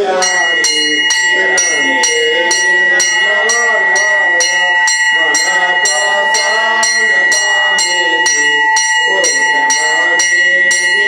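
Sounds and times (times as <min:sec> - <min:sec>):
people singing a hymn: 0:00.0 - 0:11.0
temple bell ringing: 0:00.0 - 0:11.0.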